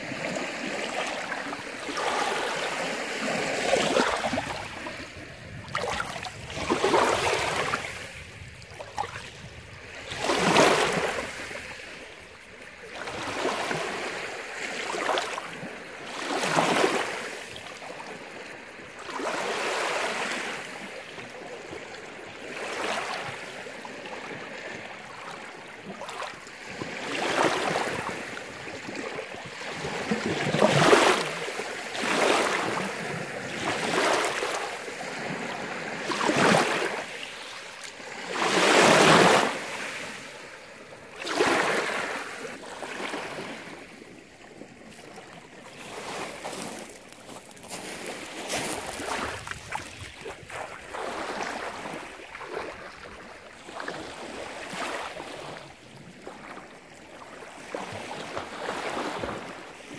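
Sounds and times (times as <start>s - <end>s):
small waves lapping over pebbles: 0.0s - 59.9s.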